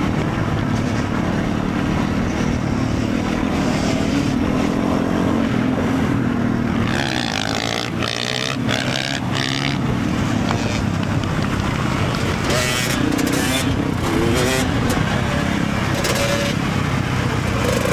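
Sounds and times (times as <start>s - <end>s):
motorcycle engine running: 0.0s - 17.9s
wind and road noise: 0.0s - 17.9s.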